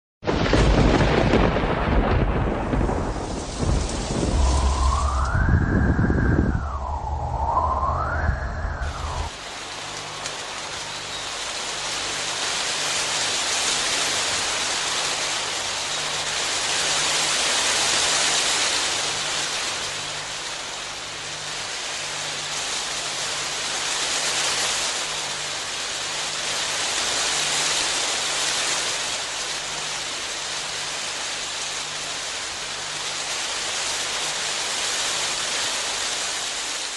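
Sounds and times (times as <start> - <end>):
heavy rain hiss: 0.3 - 36.9.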